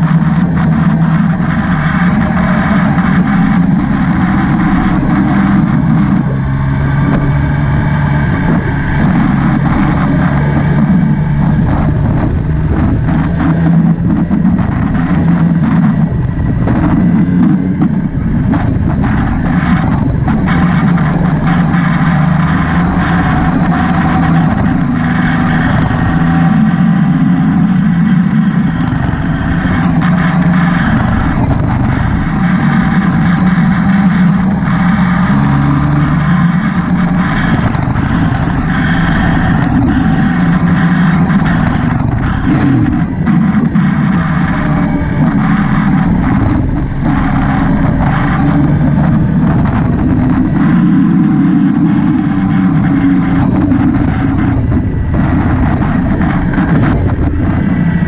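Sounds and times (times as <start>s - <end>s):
motorbike engine running: 0.0s - 58.0s.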